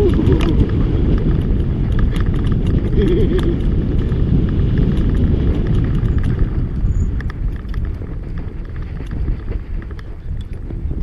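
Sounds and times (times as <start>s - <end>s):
bike rattling clicks: 0.0s - 11.0s
wind on microphone: 0.0s - 11.0s.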